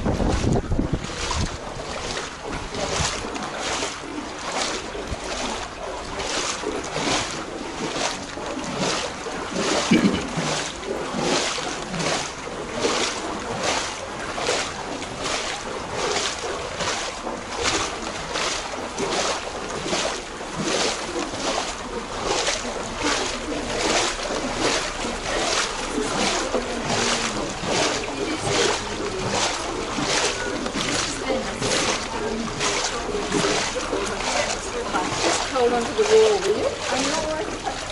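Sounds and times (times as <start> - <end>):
footsteps splashing in water: 0.0 - 37.9.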